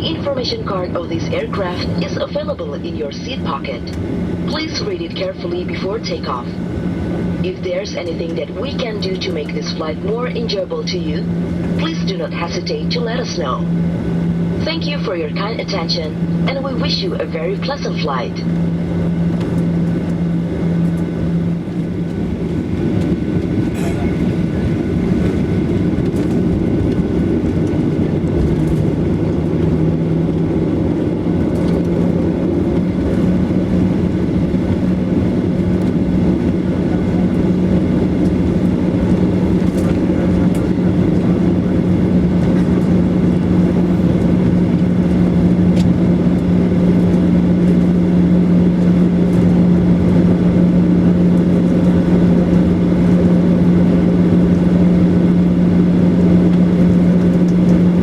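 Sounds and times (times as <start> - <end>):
jet engine rumble in cabin: 0.0 - 58.0
low hum: 0.0 - 58.0.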